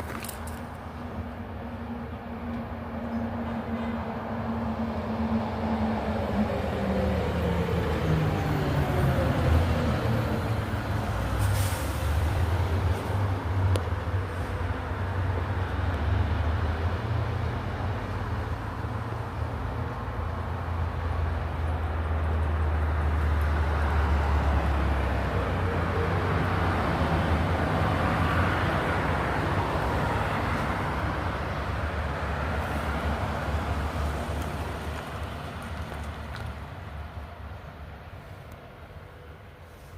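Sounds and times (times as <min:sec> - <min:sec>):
passing traffic rush: 0:00.0 - 0:39.9.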